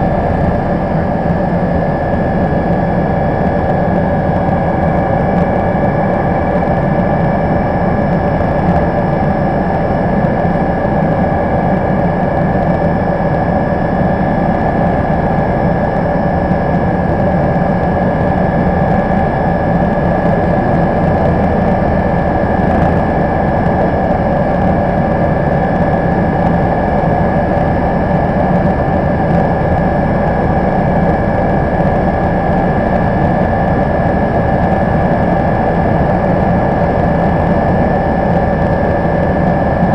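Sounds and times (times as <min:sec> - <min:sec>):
helicopter engine whine: 0:00.0 - 0:39.9
rotor and airflow rush: 0:00.0 - 0:39.9.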